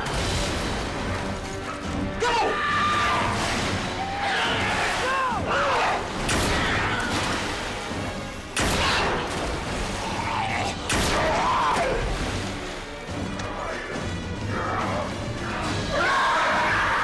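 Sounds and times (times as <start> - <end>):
dramatic music score: 0.0 - 17.0.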